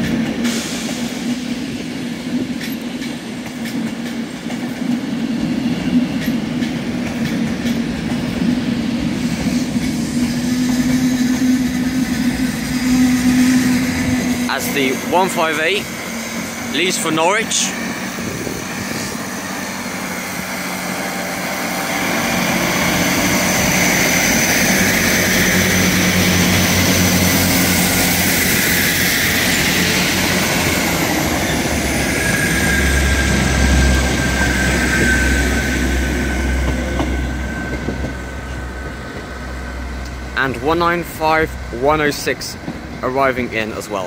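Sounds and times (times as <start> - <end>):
diesel train engines droning: 0.0 - 44.0.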